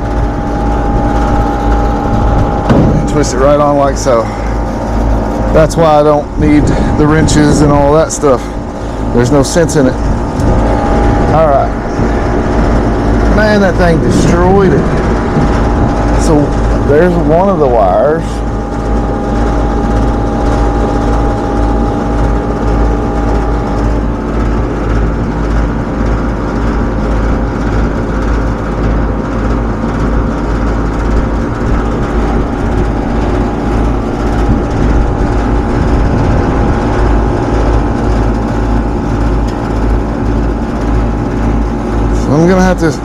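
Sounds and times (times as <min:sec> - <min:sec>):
hvac equipment humming: 0:00.0 - 0:43.0.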